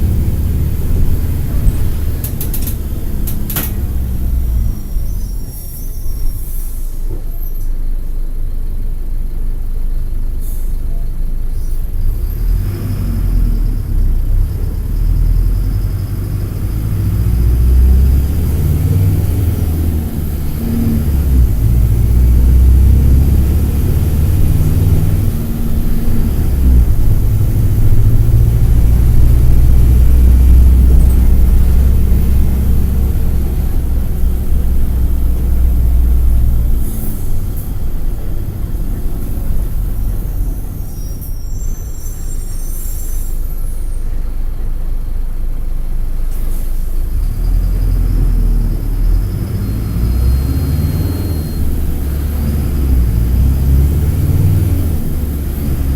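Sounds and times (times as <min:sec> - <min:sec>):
bus diesel engine under load: 0:00.0 - 0:55.9.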